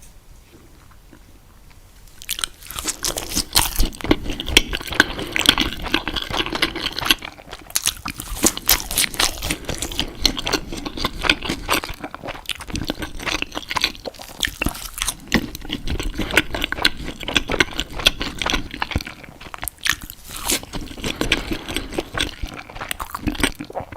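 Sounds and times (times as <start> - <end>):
crunchy chewing: 0.7 - 23.9.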